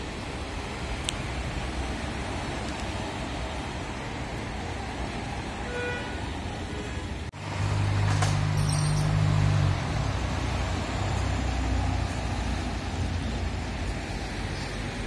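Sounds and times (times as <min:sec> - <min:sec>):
street traffic: 0:00.0 - 0:15.0
vehicle engine humming: 0:00.0 - 0:15.0.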